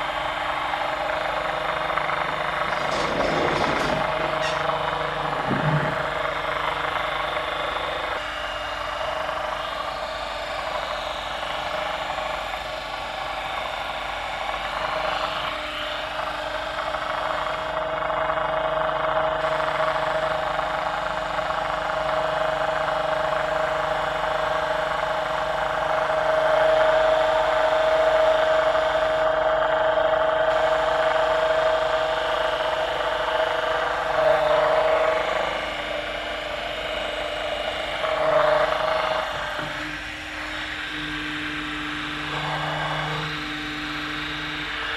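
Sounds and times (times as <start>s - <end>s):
electric motor whine and whir: 0.0s - 44.9s.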